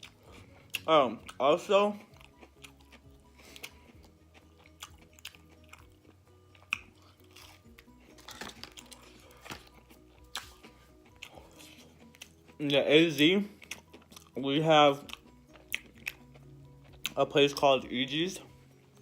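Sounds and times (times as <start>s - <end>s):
chewing crunchy food: 0.0s - 17.9s
quiet background music: 0.0s - 19.0s.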